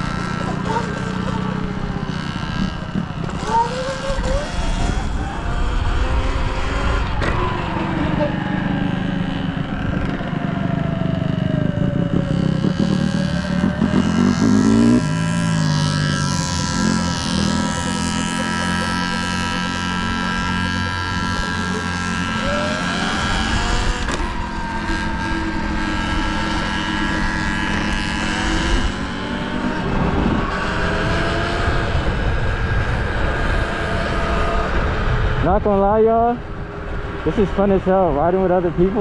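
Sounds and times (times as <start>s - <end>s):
dirt bike engines running: 0.0s - 39.0s.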